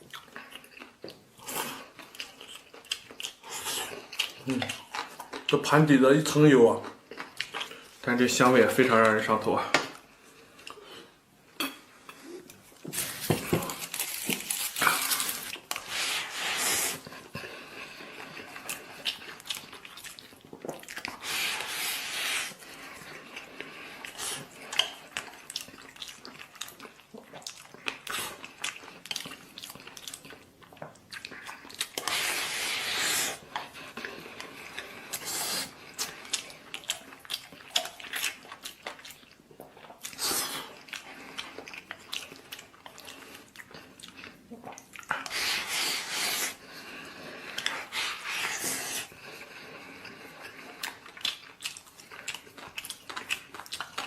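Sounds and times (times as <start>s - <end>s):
chewing: 0.0s - 9.3s, 9.9s - 54.0s.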